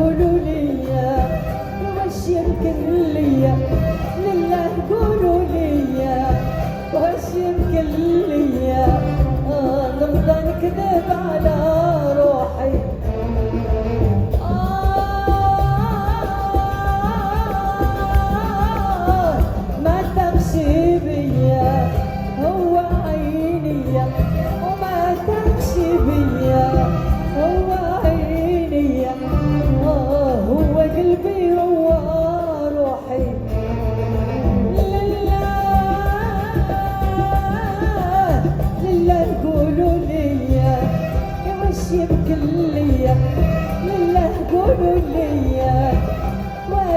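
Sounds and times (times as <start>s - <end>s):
band playing ornamented melody: 0.0s - 46.9s.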